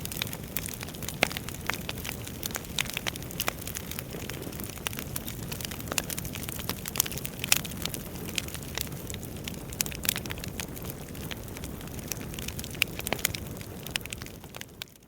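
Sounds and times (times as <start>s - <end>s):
logs crackling and popping: 0.0s - 15.0s.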